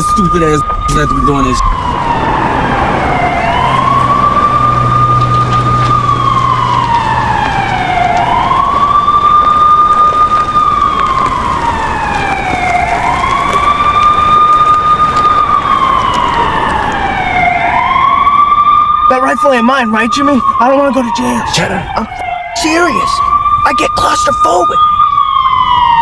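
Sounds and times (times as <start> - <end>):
police siren wailing: 0.0 - 26.0.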